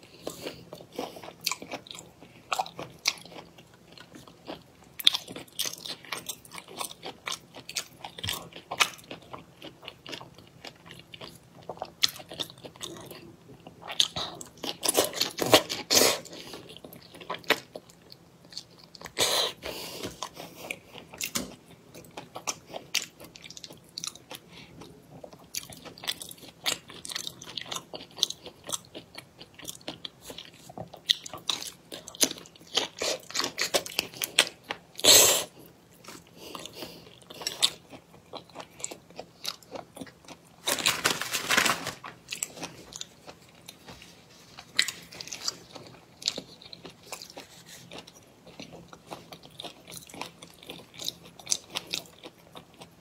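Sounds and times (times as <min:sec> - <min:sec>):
crunching and chewing fish: 0:00.1 - 0:53.0.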